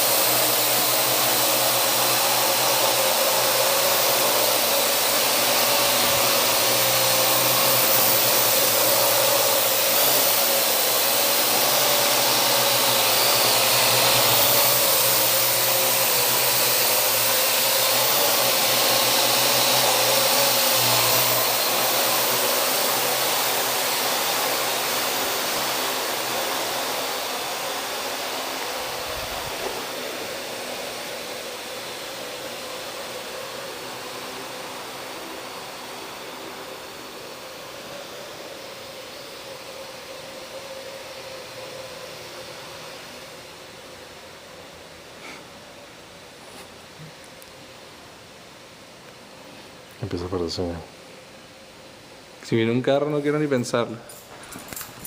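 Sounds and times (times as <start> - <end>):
quadcopter rotors whirring: 0.0 - 52.2.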